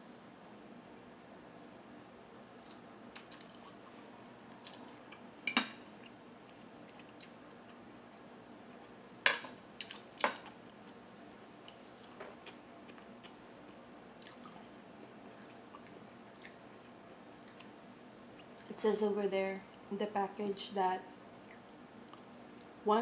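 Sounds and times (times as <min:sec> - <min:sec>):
quiet eating sounds: 0:01.4 - 0:22.8.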